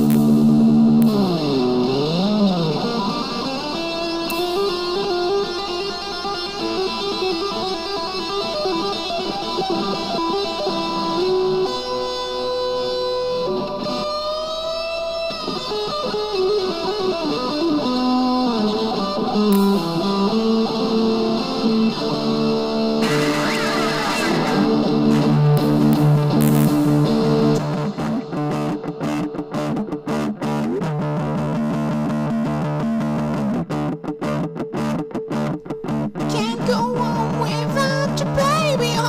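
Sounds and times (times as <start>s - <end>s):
instrumental music: 0.0s - 39.0s.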